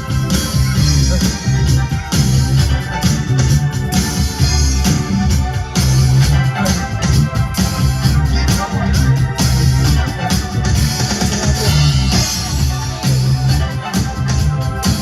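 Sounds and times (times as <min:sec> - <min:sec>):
bass: 0:00.0 - 0:15.0
drums: 0:00.0 - 0:15.0
organ: 0:00.0 - 0:15.0.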